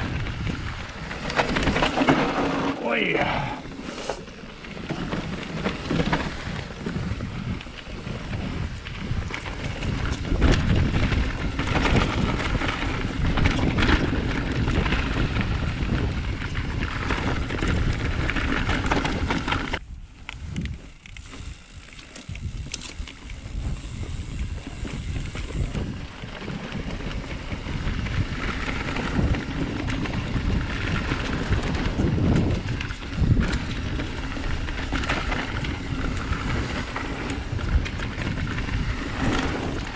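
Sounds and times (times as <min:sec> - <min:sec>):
bike knocking and rattling: 0:00.0 - 0:39.9
bike tyres on dirt: 0:00.0 - 0:39.9
wind buffeting microphone: 0:00.0 - 0:39.9.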